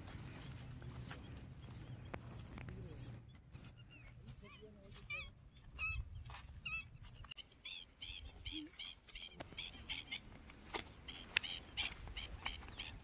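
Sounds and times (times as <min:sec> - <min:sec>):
bird chirping: 0:00.2 - 0:13.0.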